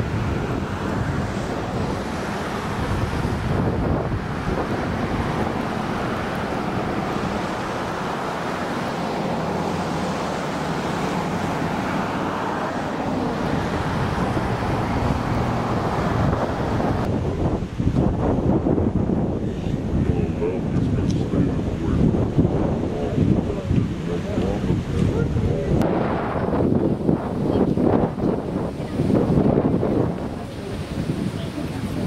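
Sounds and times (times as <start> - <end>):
flooded river flowing: 0.0 - 32.0
wind buffeting microphone: 0.0 - 32.0.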